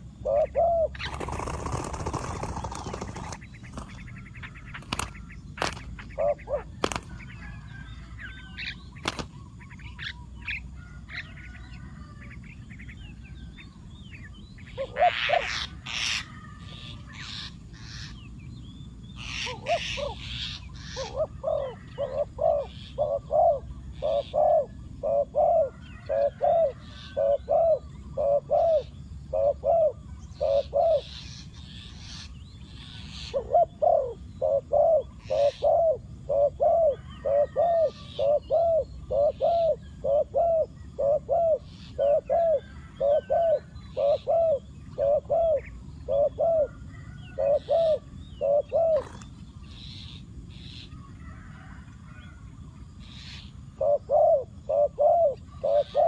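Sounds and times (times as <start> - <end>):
dove cooing: 0.0 - 12.4, 14.7 - 17.6, 19.2 - 49.4, 53.2 - 56.0
small birds chirping: 0.0 - 56.0.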